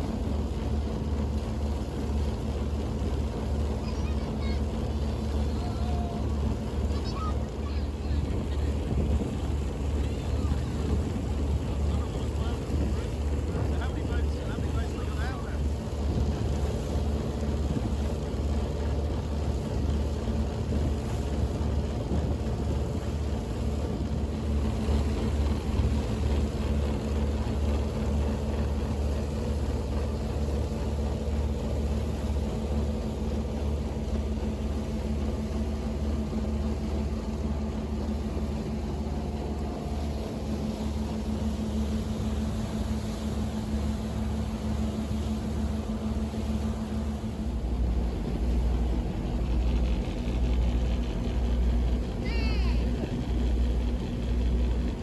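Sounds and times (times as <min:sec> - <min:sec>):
powerboat engine droning: 0:00.0 - 0:55.0
rush of water noise: 0:00.0 - 0:55.0.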